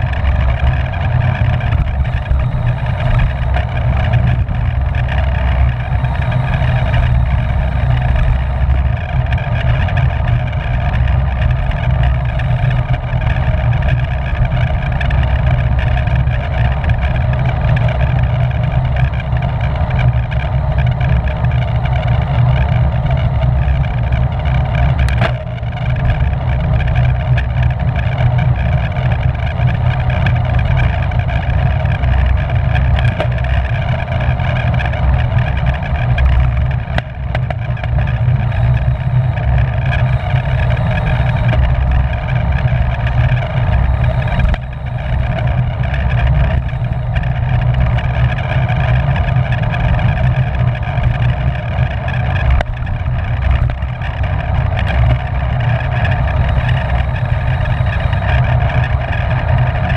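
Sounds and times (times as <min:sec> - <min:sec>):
low rumble: 0:00.0 - 0:59.9
wind rushing on microphone: 0:00.0 - 0:59.9.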